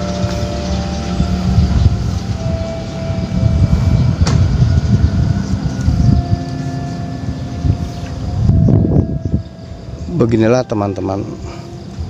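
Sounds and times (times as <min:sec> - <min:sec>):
faint steady tones: 0:00.0 - 0:12.0
wind buffeting microphone: 0:00.0 - 0:12.0.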